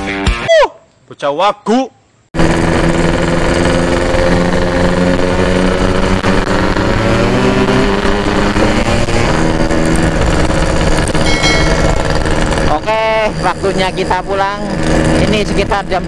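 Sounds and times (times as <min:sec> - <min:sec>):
motorcycle engine running: 0:02.4 - 0:16.0.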